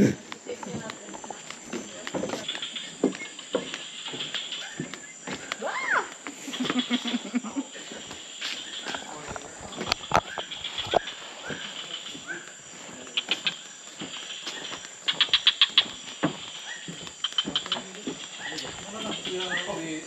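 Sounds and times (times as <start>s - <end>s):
high insect drone: 0.0s - 20.0s
rapid clicking pulses: 0.0s - 20.0s
rising chirping calls: 0.3s - 20.0s.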